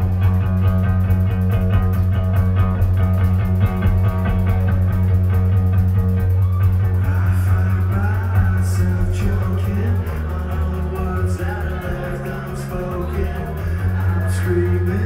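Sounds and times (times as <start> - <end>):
electric guitar: 0.0 - 15.0
fast drum strokes: 0.0 - 15.0
sustained bass guitar note: 0.0 - 15.0.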